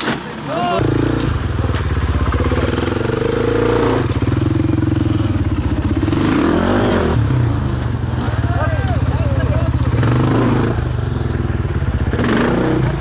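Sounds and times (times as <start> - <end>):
motorcycle engine revving: 0.7 - 13.0.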